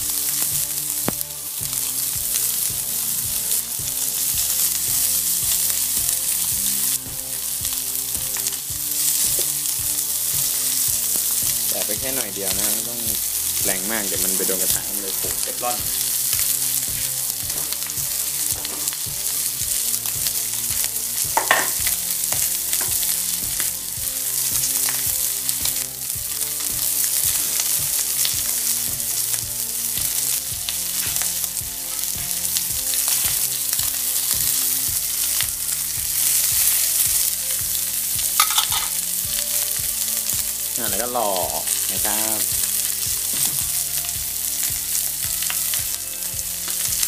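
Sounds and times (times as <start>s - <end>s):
fish fillets sizzling in oil: 0.0s - 47.0s.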